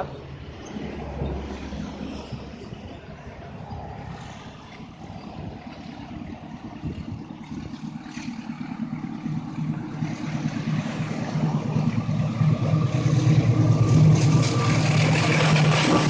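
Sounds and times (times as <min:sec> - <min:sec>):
locomotive engine drone: 0:00.0 - 0:16.0
train rumble: 0:00.0 - 0:16.0.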